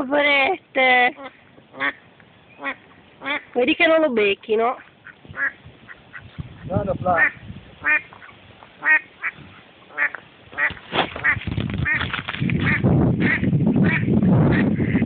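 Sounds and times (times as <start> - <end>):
ducks quacking: 1.1 - 3.6, 4.6 - 15.0.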